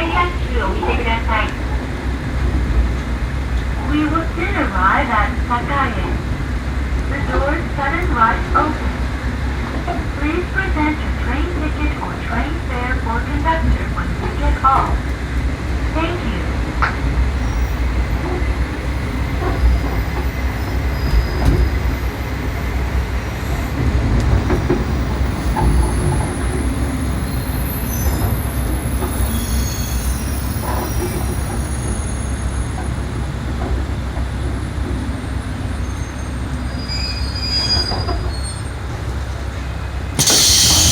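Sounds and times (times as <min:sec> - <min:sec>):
diesel railcar rumbling: 0:00.0 - 0:40.9.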